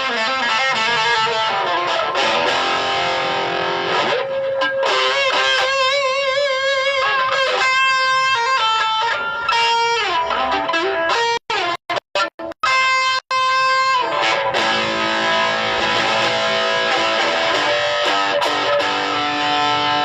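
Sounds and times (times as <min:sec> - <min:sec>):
electric guitar sustained notes: 0:00.0 - 0:20.0.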